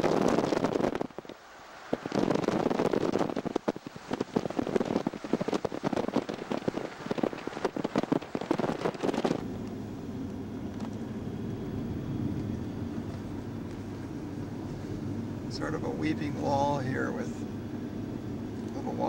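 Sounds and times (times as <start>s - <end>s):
air rushing past open window: 0.0s - 19.0s
engine and road noise in cabin: 0.0s - 19.0s.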